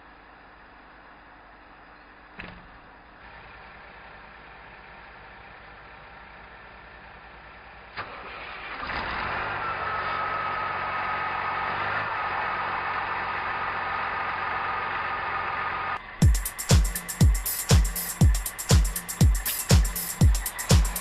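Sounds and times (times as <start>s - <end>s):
diesel engine starting and idling: 0.0s - 21.0s
engine whine: 0.0s - 21.0s.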